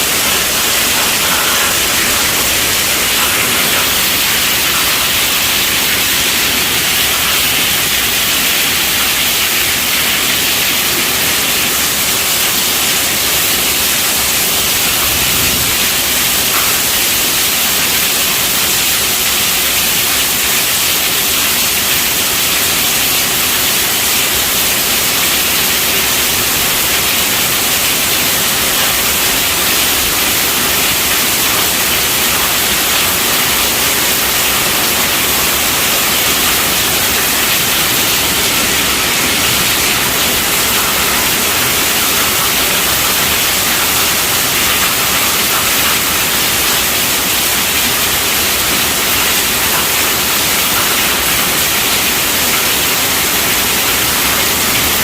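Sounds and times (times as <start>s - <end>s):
heavy rain on a tent roof: 0.0s - 55.0s.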